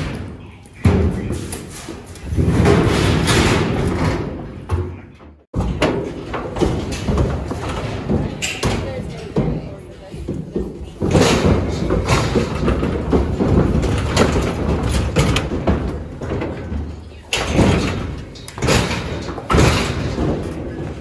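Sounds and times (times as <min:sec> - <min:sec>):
loud clattering and banging: 0:00.0 - 0:21.0.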